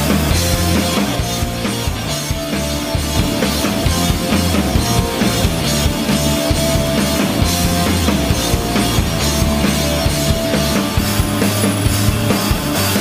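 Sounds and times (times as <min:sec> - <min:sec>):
background music with drum beat: 0:00.0 - 0:13.0
stepping bass line: 0:00.0 - 0:13.0.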